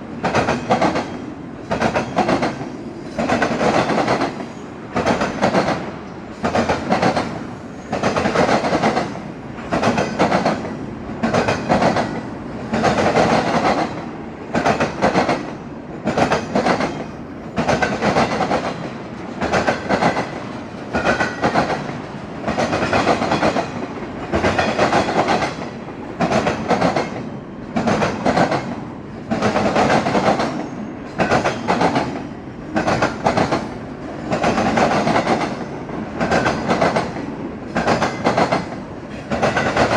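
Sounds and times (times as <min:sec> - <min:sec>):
train wheels clacking over joints: 0:00.2 - 0:14.0, 0:16.1 - 0:27.2, 0:27.8 - 0:39.9.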